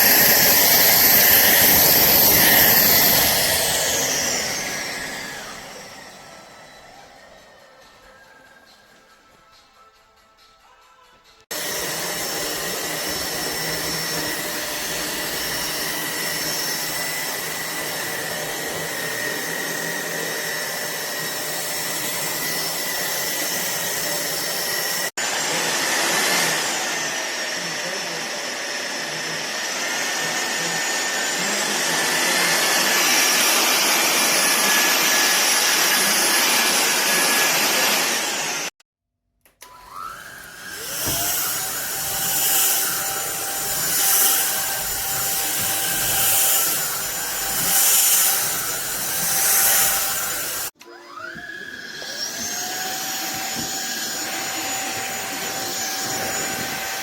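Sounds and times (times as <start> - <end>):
vacuum cleaner running: 0.0 - 10.0, 11.4 - 38.8, 39.5 - 57.0.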